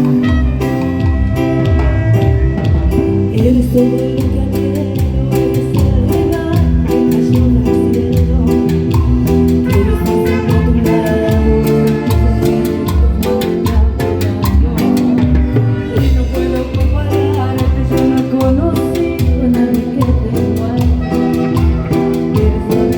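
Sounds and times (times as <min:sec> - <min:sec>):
live band playing latin dance music: 0:00.0 - 0:22.9.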